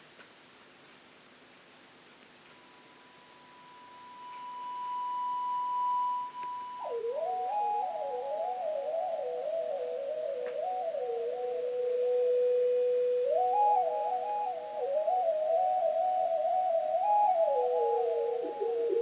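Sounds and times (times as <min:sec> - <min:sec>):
pure steady electronic tone: 0:02.4 - 0:19.0.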